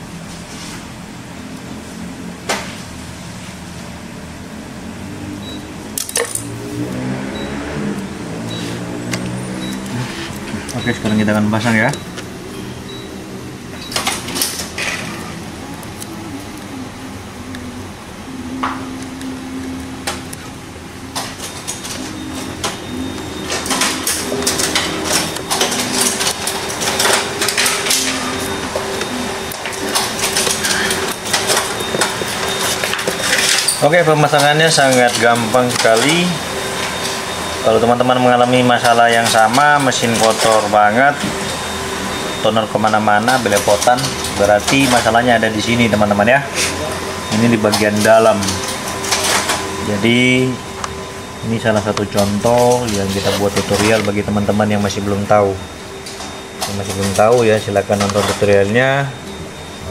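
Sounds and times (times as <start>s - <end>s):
low background hum: 0.0s - 59.9s.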